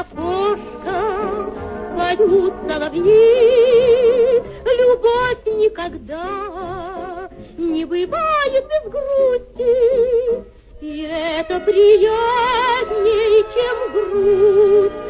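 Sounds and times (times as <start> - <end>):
musical accompaniment: 0.0 - 15.0
woman singing with vibrato: 0.0 - 15.0.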